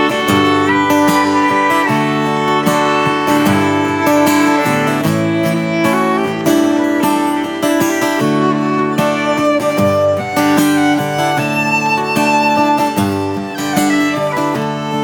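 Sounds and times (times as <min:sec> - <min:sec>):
fiddle melody: 0:00.0 - 0:15.0
strummed acoustic guitar: 0:00.0 - 0:15.0.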